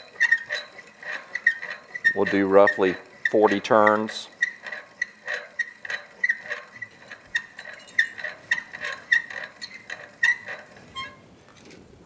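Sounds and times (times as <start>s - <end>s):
hand-cranked filer scraping metal: 0.0s - 11.2s.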